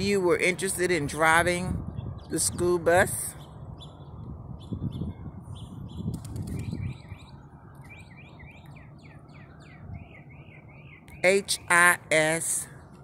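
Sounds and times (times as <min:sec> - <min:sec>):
small birds chirping: 0:01.8 - 0:13.0.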